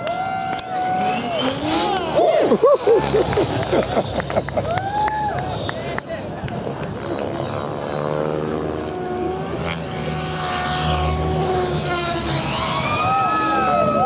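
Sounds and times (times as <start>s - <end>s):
model helicopter rotor whine: 0.2s - 14.0s.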